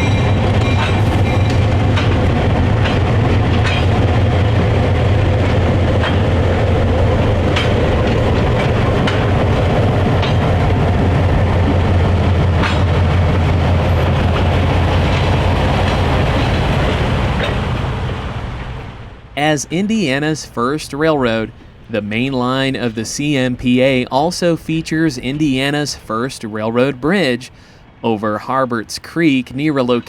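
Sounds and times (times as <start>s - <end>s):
diesel locomotive engine humming: 0.0s - 30.0s
wheels clicking on rails: 0.0s - 30.0s.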